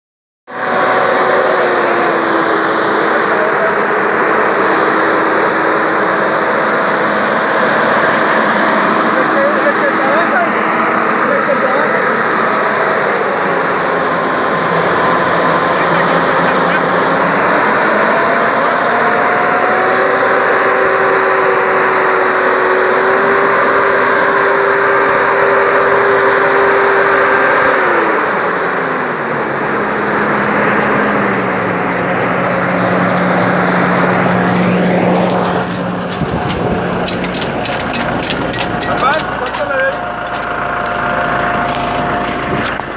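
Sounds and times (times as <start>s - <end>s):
sprayer fan air rush: 0.5s - 42.9s
tractor engine hum: 0.5s - 42.9s.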